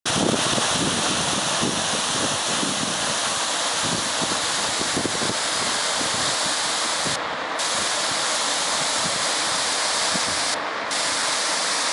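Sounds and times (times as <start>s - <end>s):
wind on microphone: 0.1s - 7.9s, 8.7s - 10.6s.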